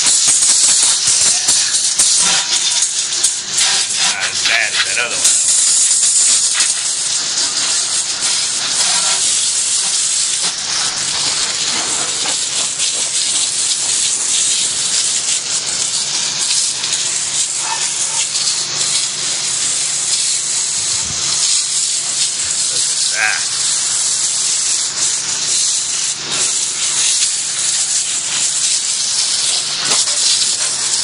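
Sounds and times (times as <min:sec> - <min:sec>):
water spraying from hose nozzle: 0:00.0 - 0:31.0.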